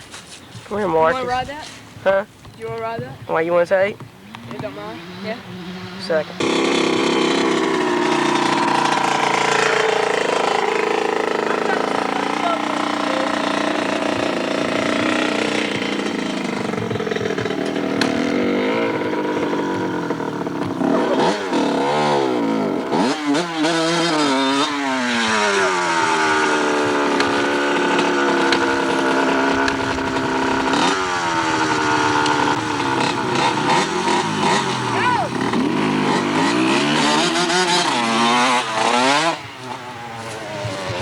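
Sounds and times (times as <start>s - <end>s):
dirt bike engine revving: 0.7s - 41.0s.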